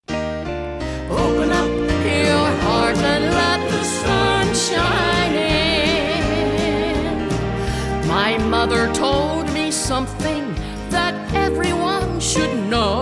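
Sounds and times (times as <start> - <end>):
instrumental country gospel music: 0.8 - 13.0.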